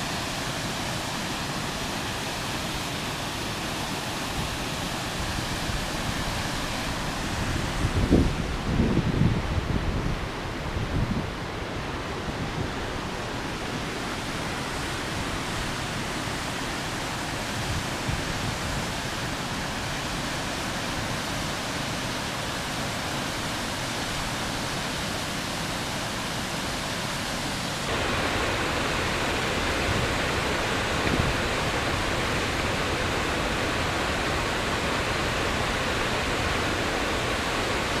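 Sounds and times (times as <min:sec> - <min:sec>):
waterfall rushing: 0:00.0 - 0:08.9, 0:10.3 - 0:38.0.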